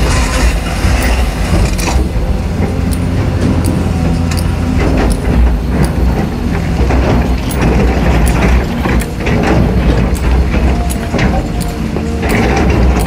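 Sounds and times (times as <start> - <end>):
bucket digging clicks and knocks: 0.0 - 13.0
excavator diesel engine running: 0.0 - 13.0.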